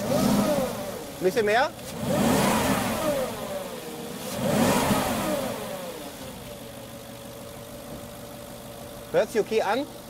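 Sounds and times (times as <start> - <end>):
car engine revving and idling: 0.0 - 10.0.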